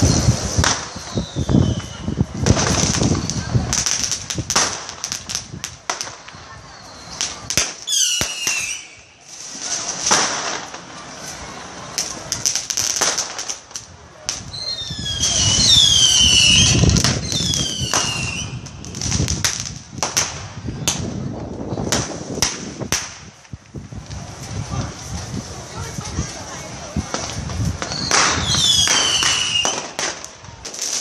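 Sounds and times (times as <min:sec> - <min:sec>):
firecracker cracks and bangs: 0:00.0 - 0:31.0
whistling fireworks: 0:00.0 - 0:31.0.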